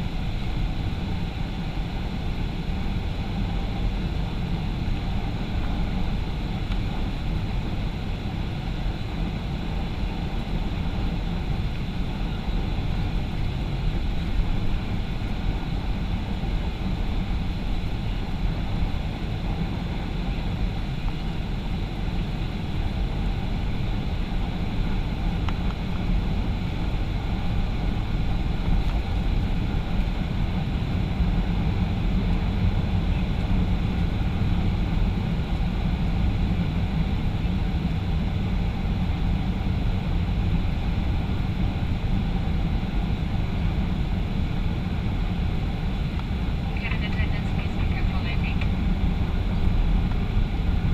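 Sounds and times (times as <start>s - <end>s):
faint high whine: 0.0s - 50.9s
jet engines rumbling: 0.0s - 50.9s.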